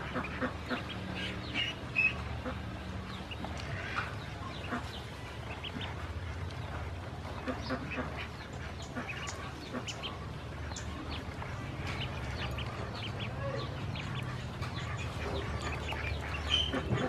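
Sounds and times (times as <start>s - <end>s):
ducklings peeping: 0.0s - 17.0s
low steady hum: 0.0s - 17.0s.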